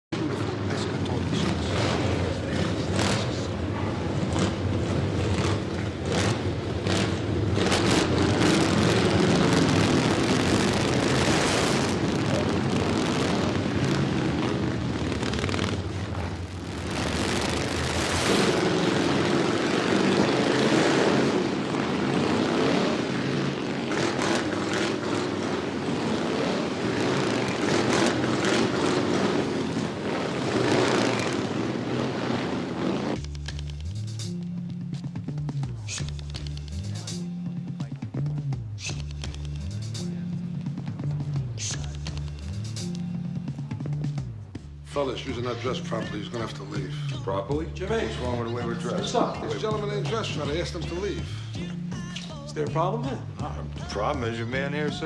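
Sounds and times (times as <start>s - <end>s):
motorcycle engines revving: 0.2s - 55.0s.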